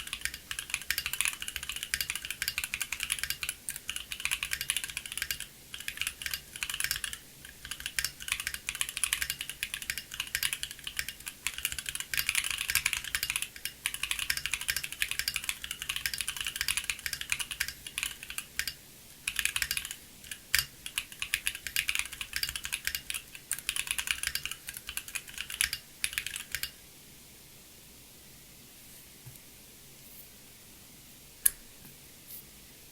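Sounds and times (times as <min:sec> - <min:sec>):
fast mechanical keyboard typing: 0:00.0 - 0:26.8.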